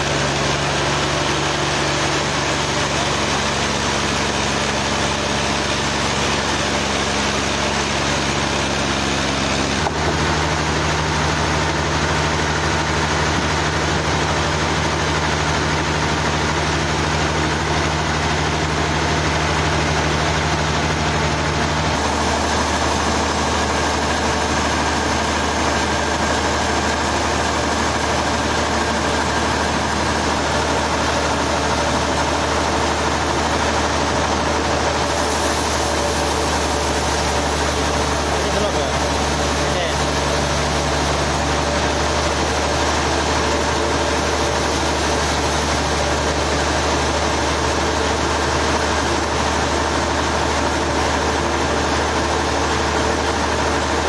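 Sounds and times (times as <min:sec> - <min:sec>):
saw cutting: 0:00.0 - 0:54.0
sawmill engine hum: 0:00.0 - 0:54.0.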